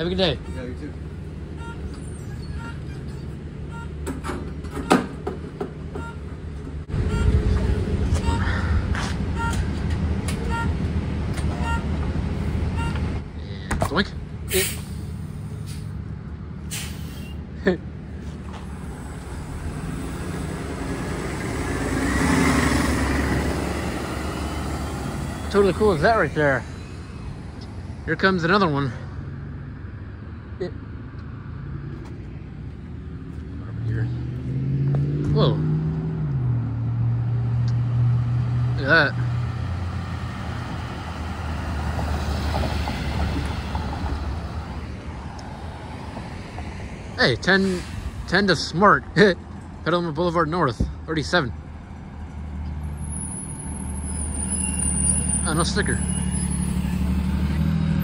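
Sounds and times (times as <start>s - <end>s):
bus engine pulling away: 0.0s - 58.0s.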